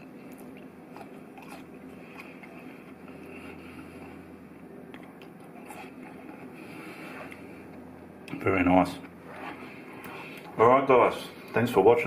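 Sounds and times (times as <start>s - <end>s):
man chewing food: 0.0s - 8.4s, 9.0s - 10.6s
low steady hum: 0.0s - 12.0s.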